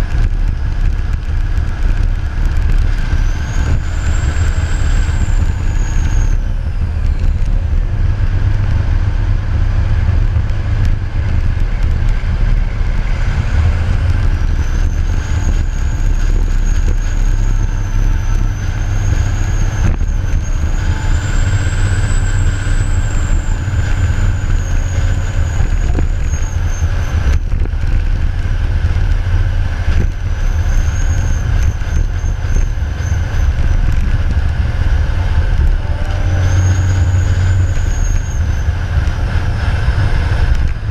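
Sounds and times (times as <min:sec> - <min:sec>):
loader diesel engine rumble: 0:00.0 - 0:40.9.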